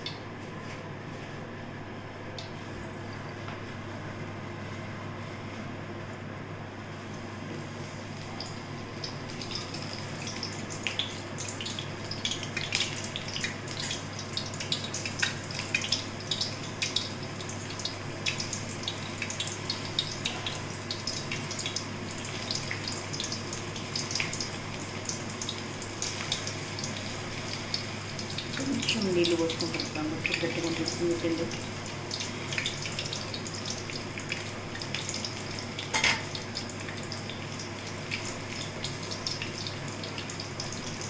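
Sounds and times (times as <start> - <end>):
chutney boiling with bubbling pops: 7.4 - 41.0.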